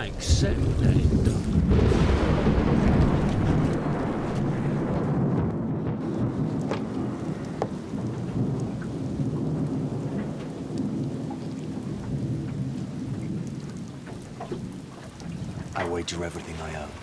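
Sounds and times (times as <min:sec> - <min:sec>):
thunder-like rumble: 0:00.0 - 0:16.8
steady rain: 0:00.0 - 0:17.0.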